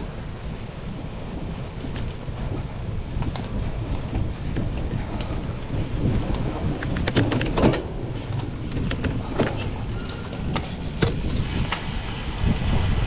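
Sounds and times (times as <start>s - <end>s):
bike clicks and rattles: 0.0s - 13.0s
wind and terrain rumble: 0.0s - 13.0s.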